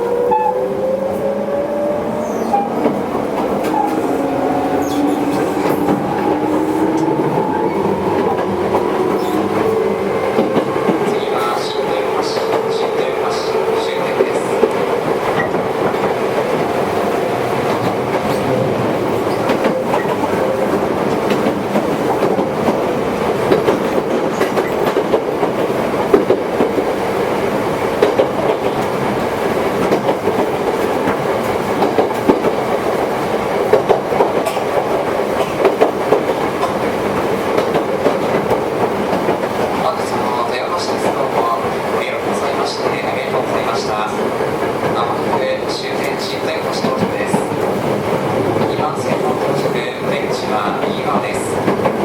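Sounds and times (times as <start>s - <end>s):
electric train rumbling: 0.0s - 52.0s.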